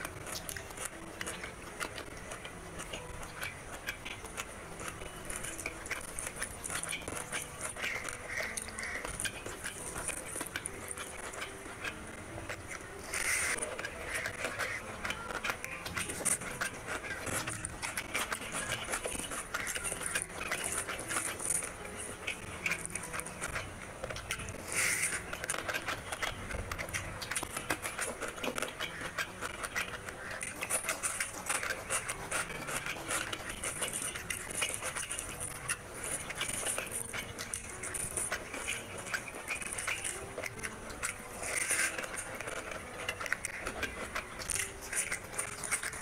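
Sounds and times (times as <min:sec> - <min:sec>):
fingers clicking on plate: 0:00.0 - 0:46.0
fingers squelching wet rice: 0:00.0 - 0:46.0.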